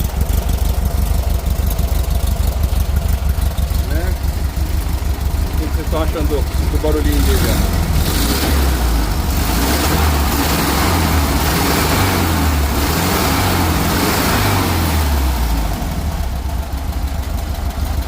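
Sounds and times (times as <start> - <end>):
car engine with deep exhaust rumble: 0.0 - 18.0.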